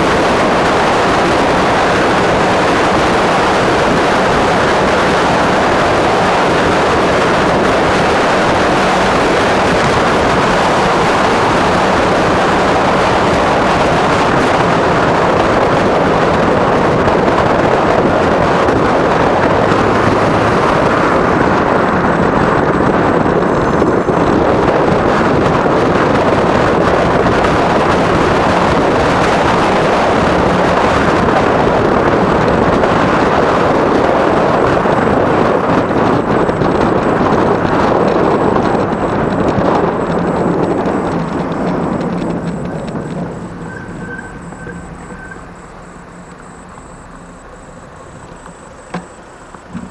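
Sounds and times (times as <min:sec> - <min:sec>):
tyre and road noise: 0:00.0 - 0:49.9
wind buffeting microphone: 0:00.0 - 0:49.9.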